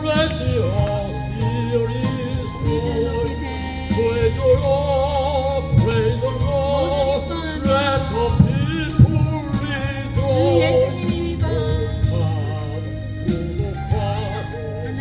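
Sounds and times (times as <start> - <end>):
instrumental backing track: 0.0 - 15.0
person singing a hymn: 0.0 - 15.0.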